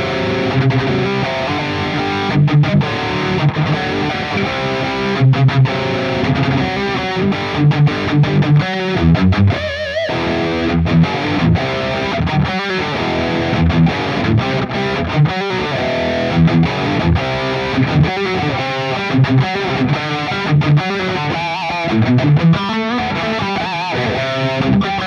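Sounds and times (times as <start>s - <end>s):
distorted electric guitar riff: 0.0s - 25.0s.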